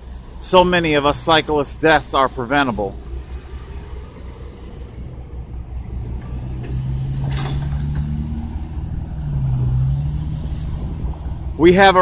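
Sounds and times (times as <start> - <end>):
large vehicle engine drone: 0.0 - 12.0
road traffic rumble: 0.0 - 12.0.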